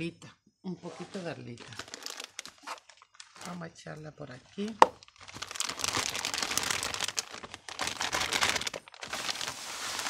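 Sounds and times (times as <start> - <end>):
plastic bag crinkling: 0.9 - 10.0.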